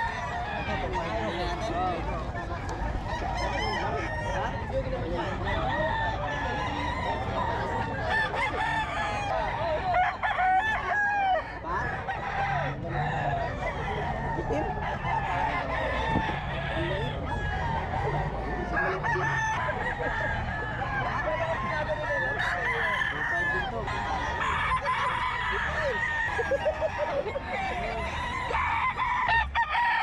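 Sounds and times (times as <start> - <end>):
roosters crowing and clucking: 0.0 - 30.0.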